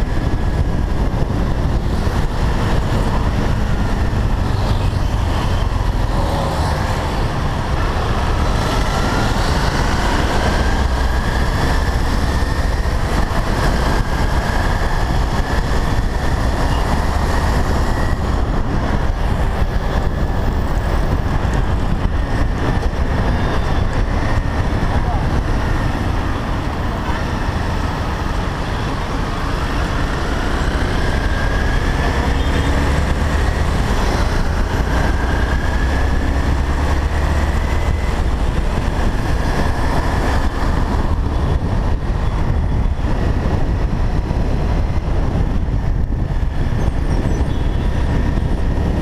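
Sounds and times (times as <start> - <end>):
faint engine rising and falling: 0.0 - 49.0
motorcycle engine and road noise: 0.0 - 49.0
traffic: 0.0 - 49.0.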